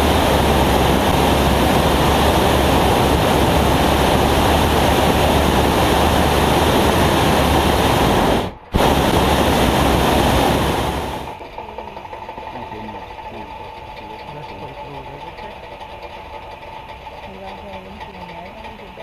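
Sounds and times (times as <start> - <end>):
propane burner blast: 0.0 - 17.1.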